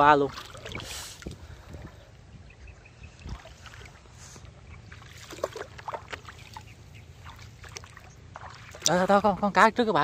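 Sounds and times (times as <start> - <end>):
water splashing and dripping: 0.0 - 2.0, 3.2 - 9.4
low steady rumble: 0.0 - 10.0.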